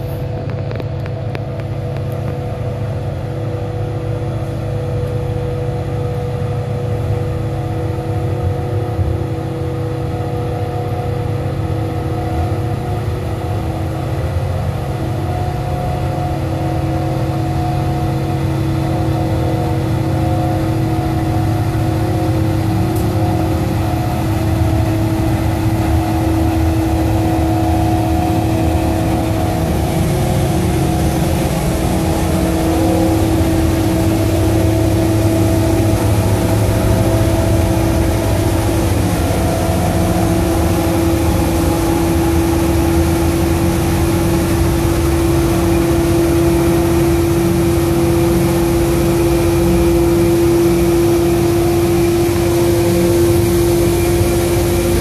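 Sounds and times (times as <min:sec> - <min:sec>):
heavy machinery drone: 0:00.0 - 0:55.0
grinding hiss on rails: 0:09.7 - 0:55.0.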